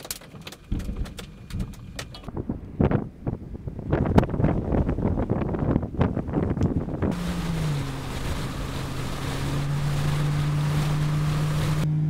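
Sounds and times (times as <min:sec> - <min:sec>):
wind buffeting microphone: 0:00.6 - 0:11.9.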